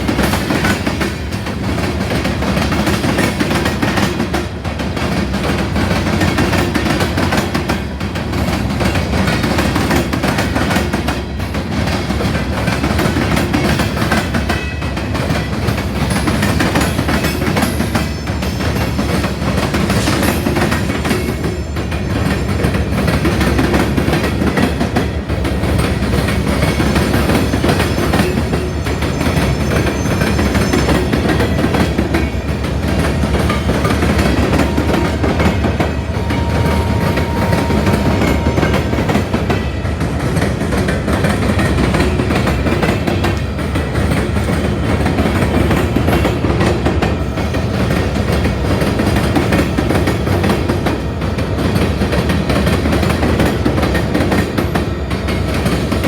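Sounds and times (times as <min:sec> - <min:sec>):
train wheels clacking: 0:00.0 - 0:56.0.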